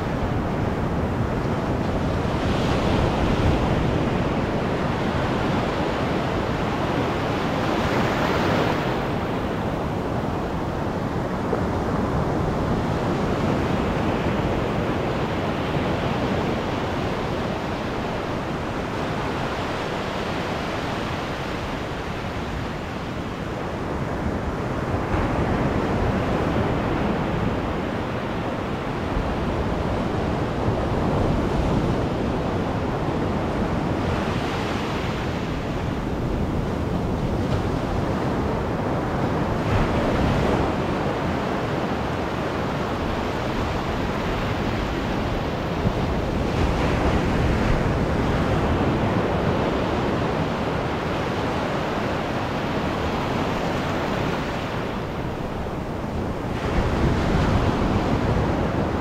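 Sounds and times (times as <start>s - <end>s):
ocean surf washing over sand: 0.0s - 59.0s.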